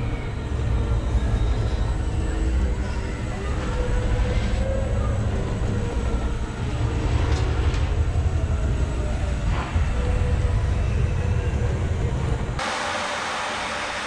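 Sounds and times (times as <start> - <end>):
ride car rumbling and rattling: 0.0 - 12.6.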